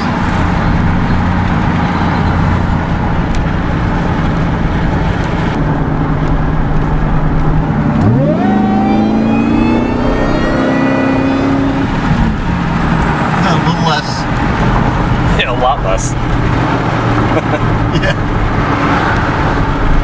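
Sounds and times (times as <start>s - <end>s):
supercharger whine: 0.0s - 20.0s
truck engine accelerating: 0.0s - 20.0s.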